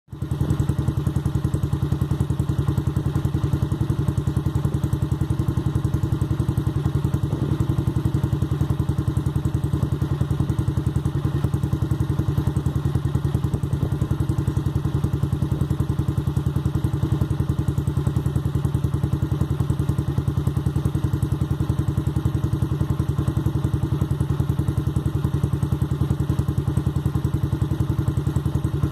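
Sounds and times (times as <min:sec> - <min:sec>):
motorcycle idling: 0:00.1 - 0:28.9.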